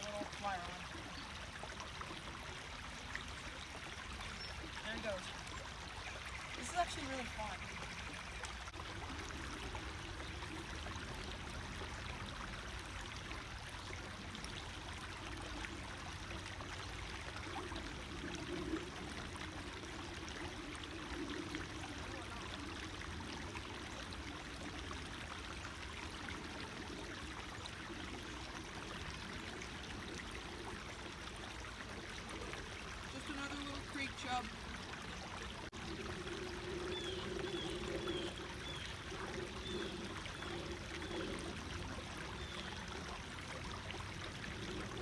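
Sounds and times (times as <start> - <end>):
creek water babbling over rocks: 0.0 - 45.0.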